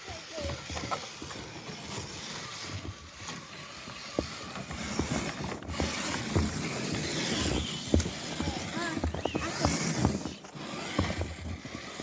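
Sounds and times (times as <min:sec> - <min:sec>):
toy truck motor whirring: 0:00.0 - 0:12.0.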